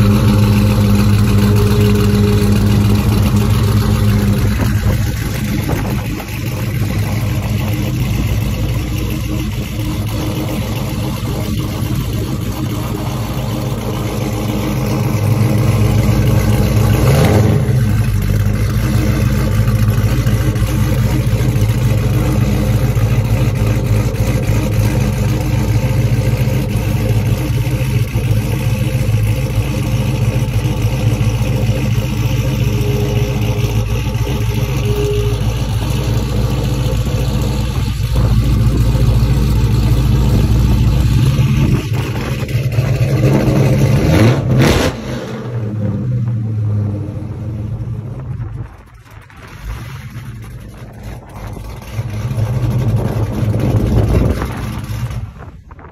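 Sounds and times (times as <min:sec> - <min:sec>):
car engine running at low revs: 0:00.0 - 0:55.9.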